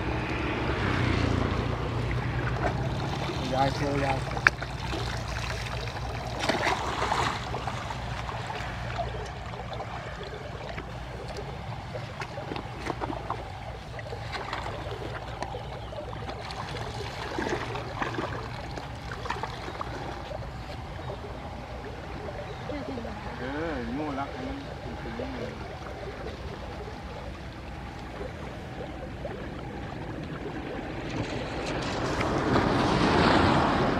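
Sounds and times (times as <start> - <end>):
steady low rumble: 0.0 - 33.9
water splashing and trickling: 0.0 - 33.9.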